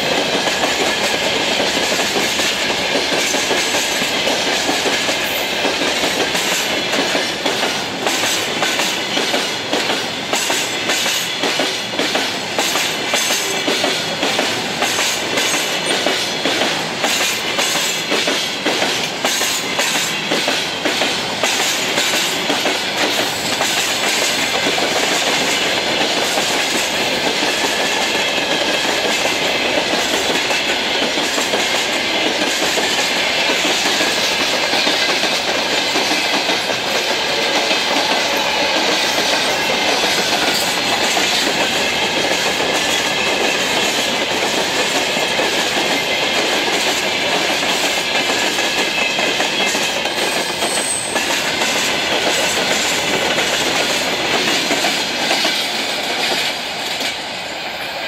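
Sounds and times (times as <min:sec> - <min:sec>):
freight train rumble: 0:00.0 - 0:58.0
train wheels clacking over rails: 0:00.0 - 0:58.0.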